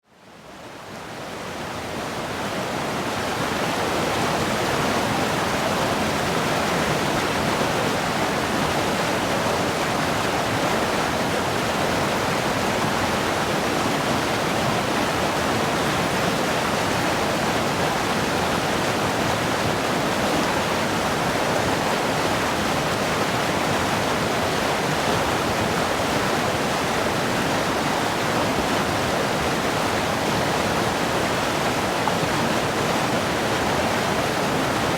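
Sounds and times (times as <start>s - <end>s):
river water rushing: 0.2s - 34.9s.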